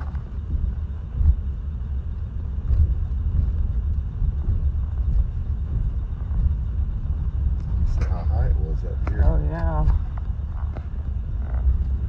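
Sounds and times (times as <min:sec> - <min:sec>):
car interior engine and road rumble: 0:00.0 - 0:12.0.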